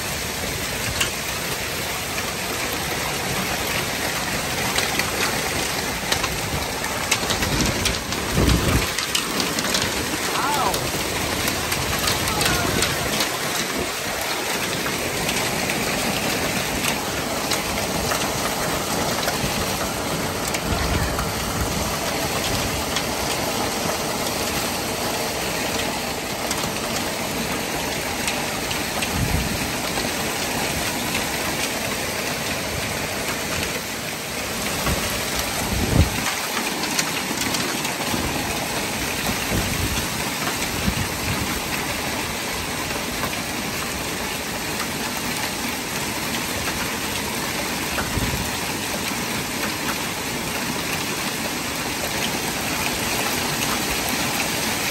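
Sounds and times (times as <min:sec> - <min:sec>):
heavy rain: 0:00.0 - 0:54.9
hailstones striking: 0:00.1 - 0:54.9.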